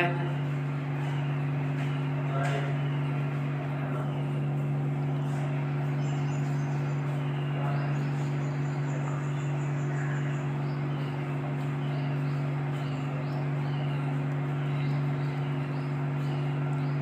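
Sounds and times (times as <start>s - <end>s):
low mechanical hum: 0.0s - 17.0s
small birds chirping: 0.0s - 17.0s.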